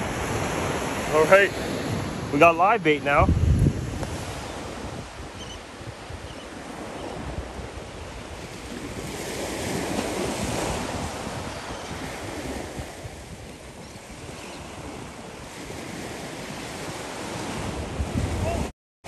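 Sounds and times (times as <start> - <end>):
ocean surf breaking: 0.0 - 18.7
wind buffeting microphone: 0.0 - 18.7.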